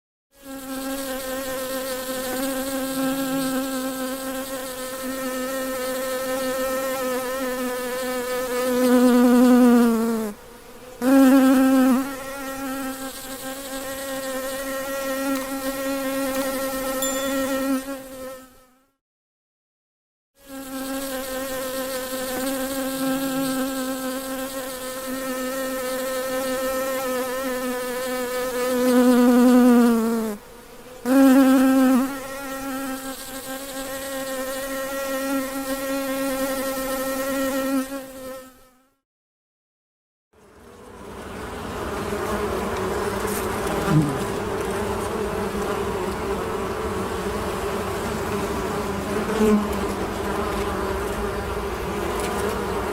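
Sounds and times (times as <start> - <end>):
bee buzzing: 0.4 - 19.0, 20.4 - 39.0, 40.4 - 52.9.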